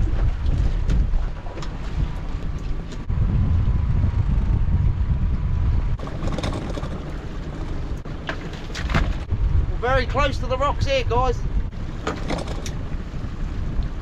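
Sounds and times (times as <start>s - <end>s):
outboard motor running: 0.0s - 10.1s, 11.4s - 14.0s
wind buffeting microphone: 0.0s - 14.0s.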